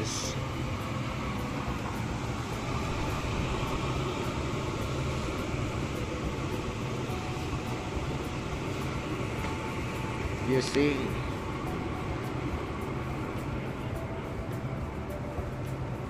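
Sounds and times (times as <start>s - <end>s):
air conditioning units humming: 0.0s - 16.0s.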